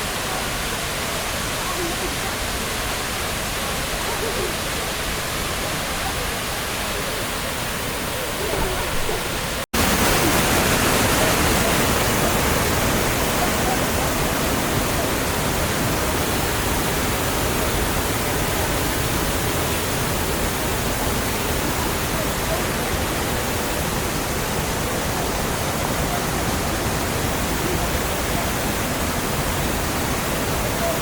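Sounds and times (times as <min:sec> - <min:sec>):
waterfall pouring: 0:00.0 - 0:31.0.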